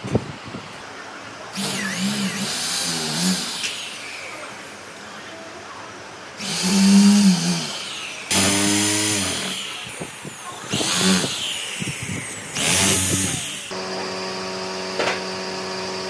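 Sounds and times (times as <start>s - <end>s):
electric power tool running: 1.6s - 4.9s, 6.4s - 16.0s.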